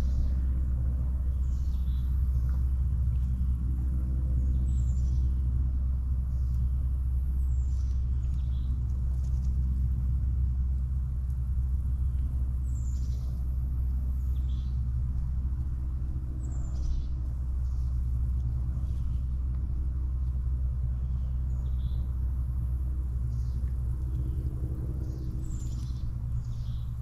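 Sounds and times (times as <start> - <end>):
faint hum: 0.0 - 27.0
low rumble: 0.0 - 27.0.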